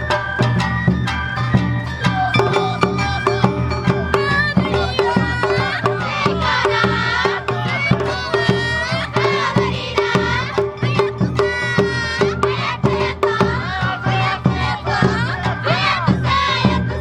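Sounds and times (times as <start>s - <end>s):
bamboo flutes sliding melody: 0.0s - 17.0s
taiko drums beating: 0.0s - 17.0s.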